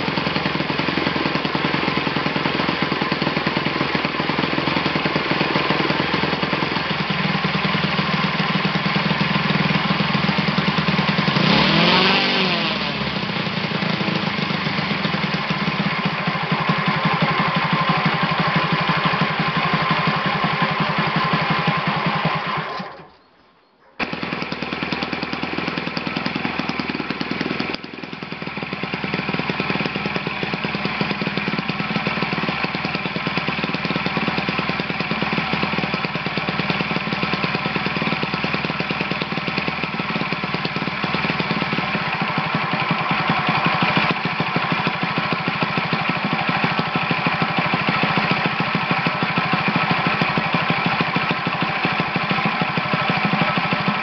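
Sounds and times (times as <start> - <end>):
model glow engine running: 0.0 - 22.9, 24.0 - 54.0.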